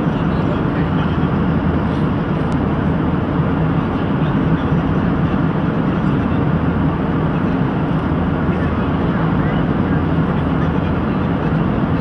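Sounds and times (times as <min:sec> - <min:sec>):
airliner cabin engine and airflow noise: 0:00.0 - 0:12.0.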